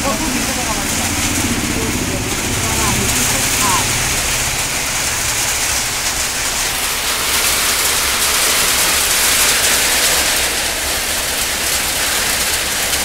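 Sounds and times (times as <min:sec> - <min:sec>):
heavy rain on puddled ground: 0:00.0 - 0:13.0.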